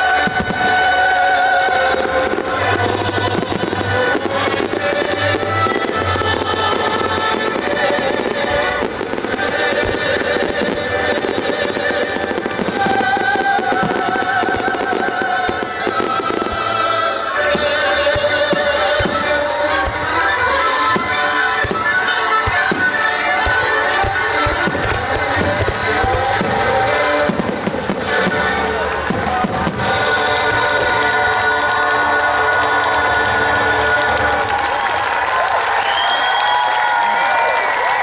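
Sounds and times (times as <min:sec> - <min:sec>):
loud music with held notes: 0:00.0 - 0:34.7
fireworks crackling and popping: 0:00.0 - 0:38.0.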